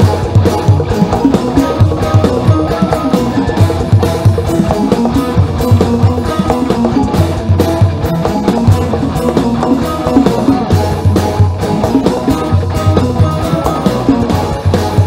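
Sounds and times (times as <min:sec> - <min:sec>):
bass: 0:00.0 - 0:15.0
drum kit beat: 0:00.0 - 0:15.0
electric guitar: 0:00.0 - 0:15.0.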